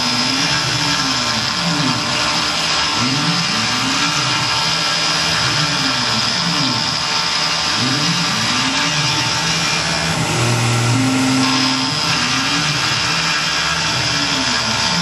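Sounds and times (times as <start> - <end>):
machine motor tones rising and falling: 0.0 - 15.0
mill cutting metal: 0.0 - 15.0.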